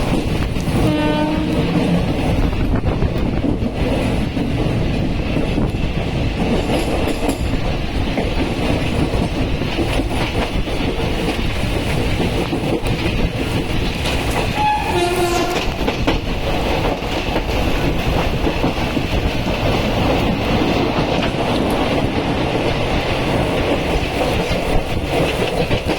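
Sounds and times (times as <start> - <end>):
train wheels clattering over track: 0.0 - 25.9.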